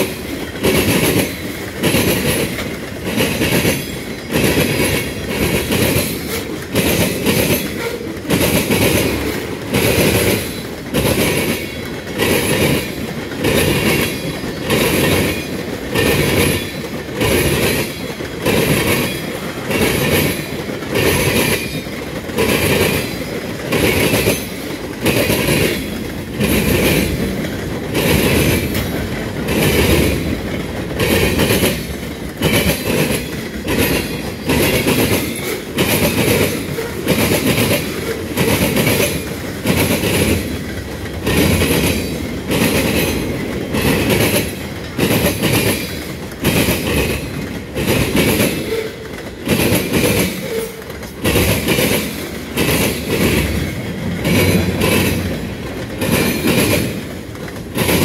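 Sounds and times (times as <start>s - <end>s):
train wheels clattering: 0.0s - 58.0s.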